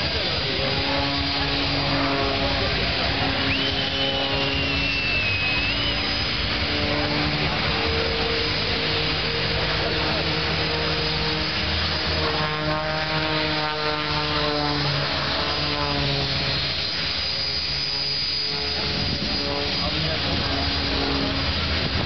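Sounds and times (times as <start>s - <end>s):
propeller plane droning overhead: 0.0s - 22.0s.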